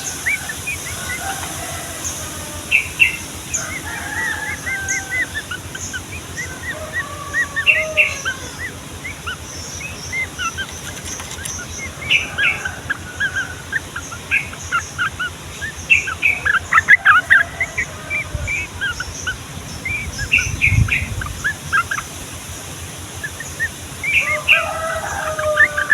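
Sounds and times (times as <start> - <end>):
bulbuls singing and chattering: 0.0 - 25.9.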